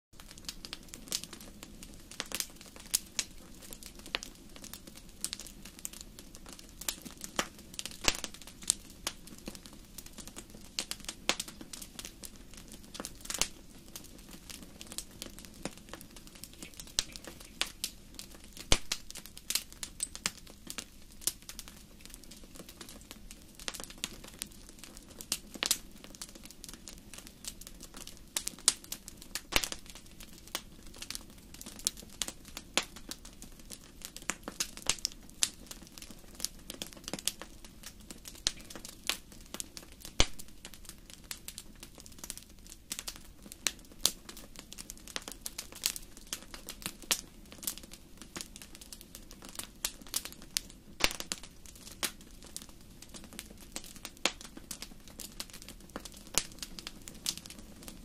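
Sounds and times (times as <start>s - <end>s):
wood fire crackling and popping: 0.2s - 58.0s.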